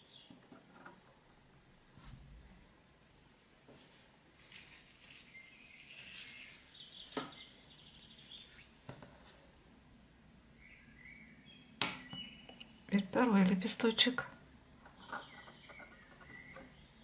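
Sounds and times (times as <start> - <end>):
small birds chirping: 0.0 - 0.8, 2.2 - 8.8, 10.4 - 17.0.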